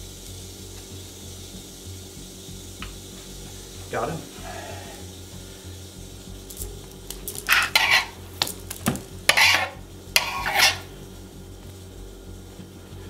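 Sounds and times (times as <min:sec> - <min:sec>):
snake hissing rasps: 0:00.0 - 0:13.0.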